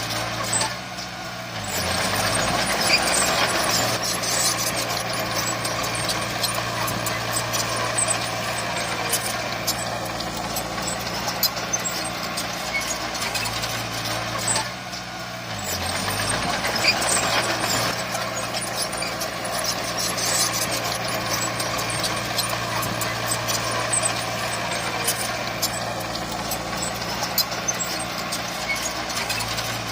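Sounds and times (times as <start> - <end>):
diesel engine running: 0.0 - 29.9
clanking and rattling: 1.8 - 29.9.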